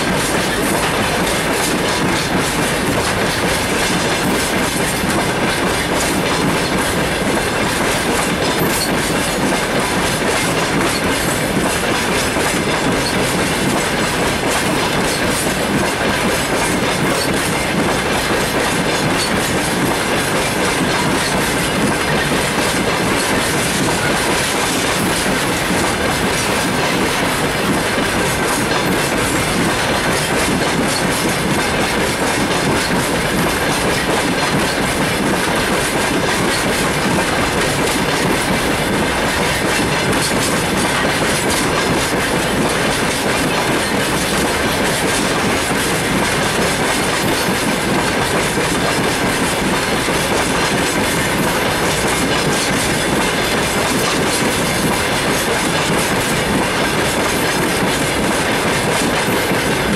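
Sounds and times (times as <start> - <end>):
freight train rumbling and rattling: 0.0 - 59.9
wheels clacking over rail joints: 0.0 - 59.9.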